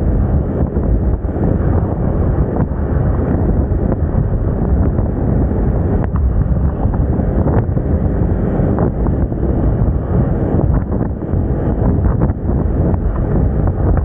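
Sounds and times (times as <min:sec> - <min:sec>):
scooter running: 0:00.0 - 0:14.0
wind buffeting microphone: 0:00.0 - 0:14.0.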